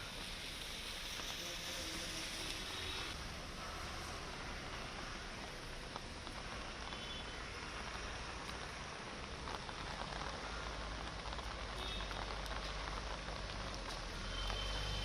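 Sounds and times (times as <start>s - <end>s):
heavy rain on hard surfaces: 0.0s - 15.0s.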